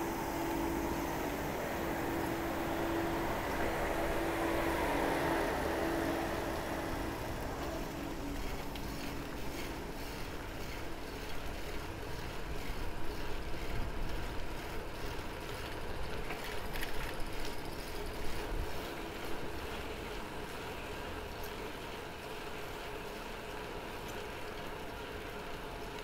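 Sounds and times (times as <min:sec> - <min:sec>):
bicycle rolling on asphalt: 0:00.0 - 0:26.0.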